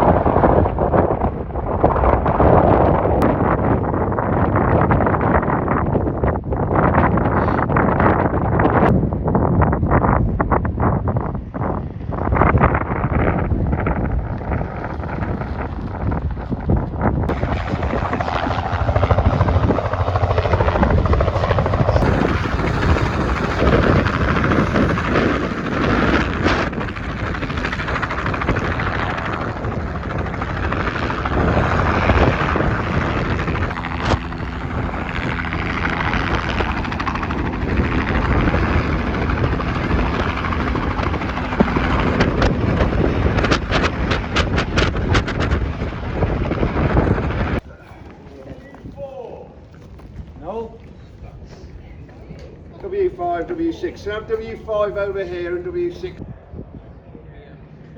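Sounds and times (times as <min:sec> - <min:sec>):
helicopter rotor and engine: 0:00.0 - 0:57.9.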